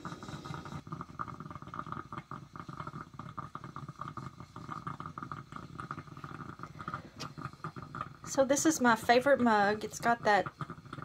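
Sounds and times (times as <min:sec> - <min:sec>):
coffee percolator gurgling: 0:00.0 - 0:11.0.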